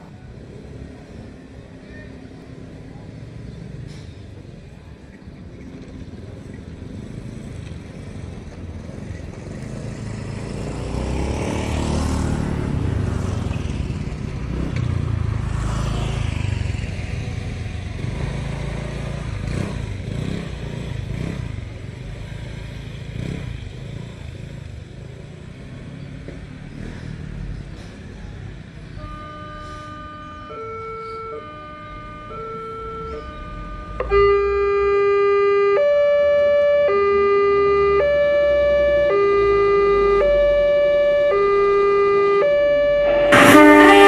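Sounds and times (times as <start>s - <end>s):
vehicle passing by: 5.8s - 44.0s.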